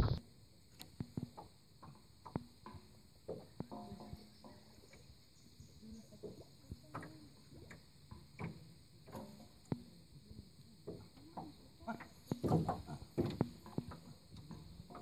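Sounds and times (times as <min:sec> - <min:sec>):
people wading in shallow water: 0:00.0 - 0:15.0.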